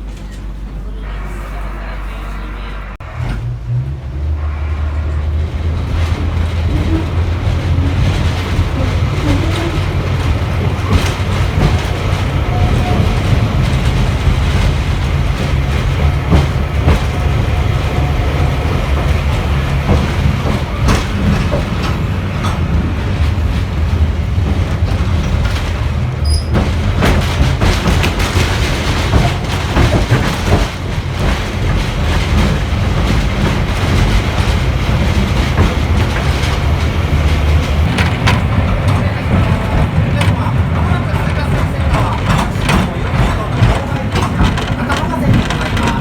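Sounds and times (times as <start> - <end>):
train engine drone: 0.0 - 46.0
wheels clicking over rail joints: 3.1 - 46.0.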